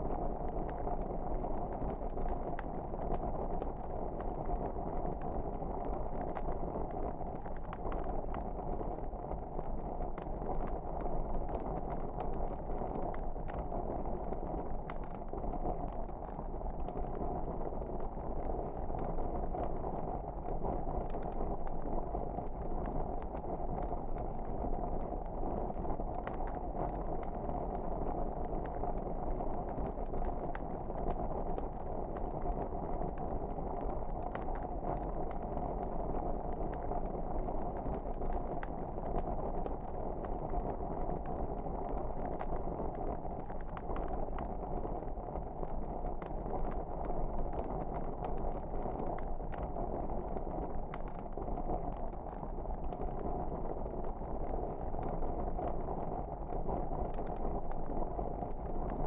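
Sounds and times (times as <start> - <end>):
wood fire crackling: 0.0 - 54.4.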